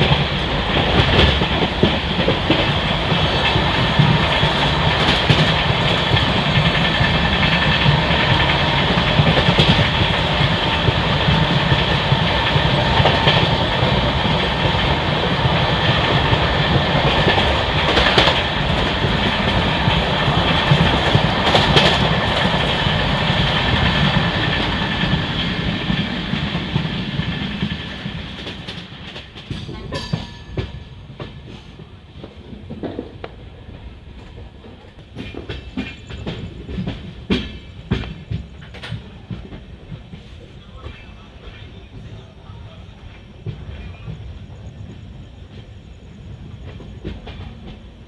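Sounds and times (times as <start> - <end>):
wheels clacking over rail joints: 0.0 - 42.1
train rumbling on rails: 0.0 - 48.0.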